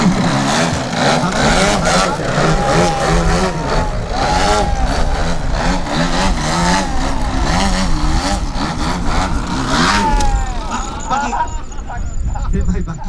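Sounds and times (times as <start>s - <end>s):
model airplane engine revving: 0.0s - 12.9s.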